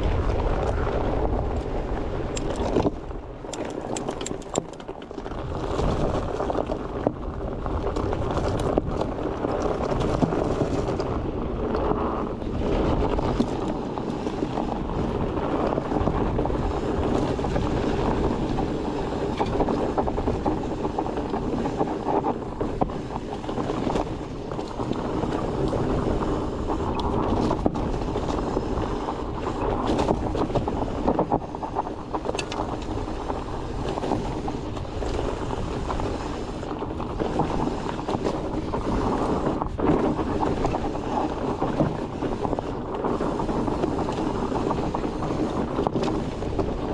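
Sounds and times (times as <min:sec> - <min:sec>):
bike clicks and rattles: 0:00.0 - 0:46.9
bike tyres rumbling on dirt: 0:00.0 - 0:46.9
wind buffeting microphone: 0:00.0 - 0:46.9.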